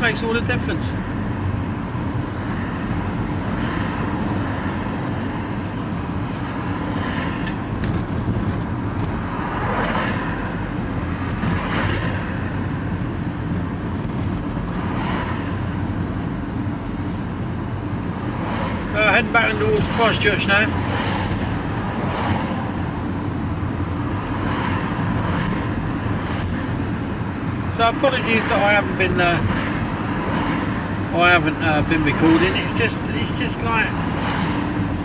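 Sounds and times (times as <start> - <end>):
passing traffic rushing: 0.0 - 35.0
van engine and road rumble: 0.0 - 35.0.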